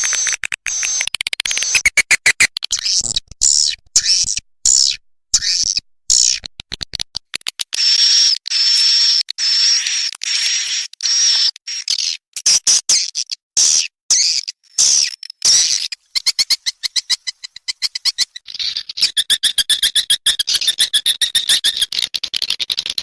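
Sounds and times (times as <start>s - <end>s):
swiftlet twittering clicks: 0.0s - 12.6s, 14.1s - 23.0s.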